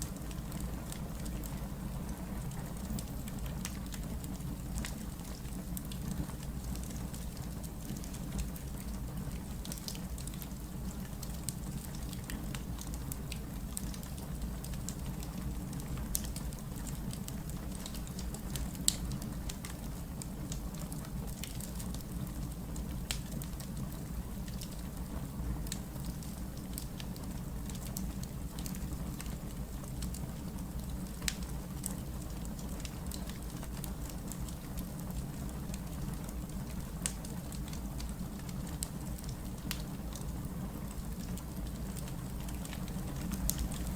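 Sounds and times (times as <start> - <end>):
fire crackles and pops: 0.0 - 43.9
wood fire rumbling: 0.1 - 43.9.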